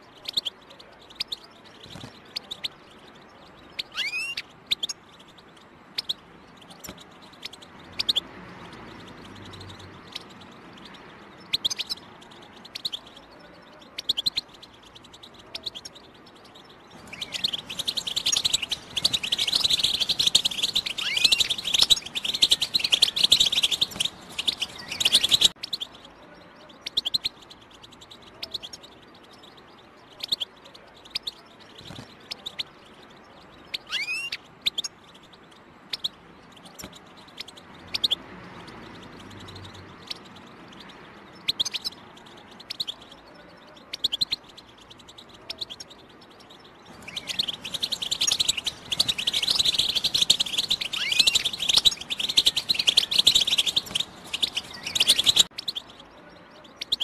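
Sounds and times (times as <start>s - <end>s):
finch chirping and twittering: 0.0s - 57.0s.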